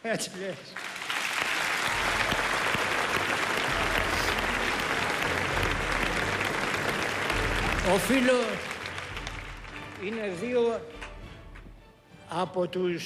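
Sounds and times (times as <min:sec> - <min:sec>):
audience applauding: 0:00.7 - 0:11.6.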